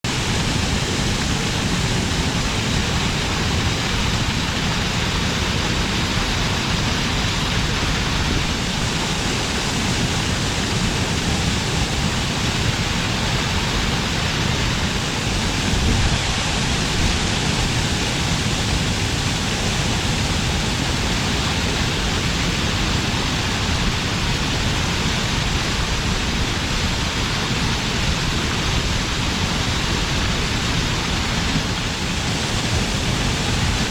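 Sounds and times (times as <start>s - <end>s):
water spilling over a dam: 0.1s - 33.9s.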